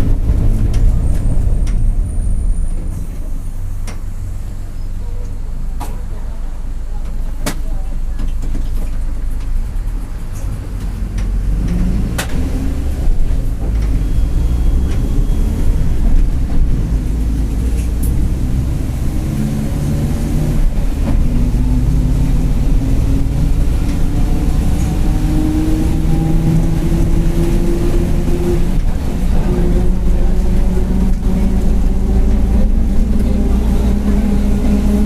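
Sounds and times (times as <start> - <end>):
bus diesel engine rumbling: 0.0 - 35.0.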